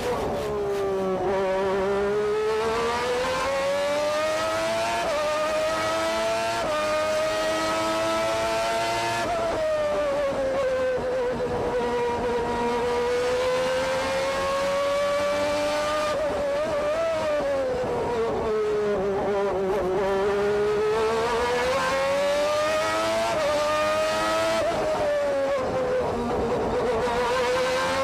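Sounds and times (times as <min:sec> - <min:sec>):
racing car engine at high revs: 0:00.0 - 0:28.0.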